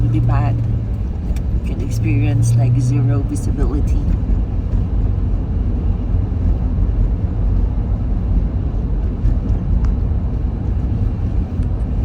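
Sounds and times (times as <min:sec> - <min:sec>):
car driving interior rumble: 0:00.0 - 0:12.0.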